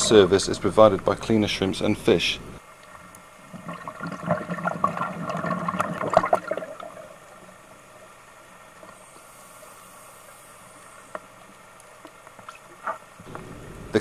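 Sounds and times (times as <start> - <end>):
faint steady hiss: 0.0 - 14.0
underwater bubbling: 0.0 - 14.0.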